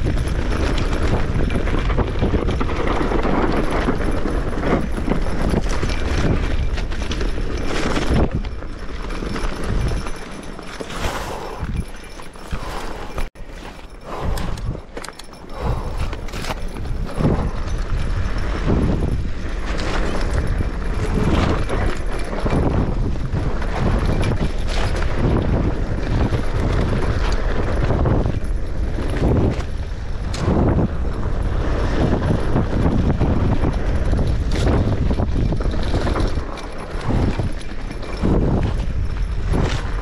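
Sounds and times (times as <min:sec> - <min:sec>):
bike rattling and knocking: 0:00.0 - 0:40.0
wind noise rumble: 0:00.0 - 0:40.0.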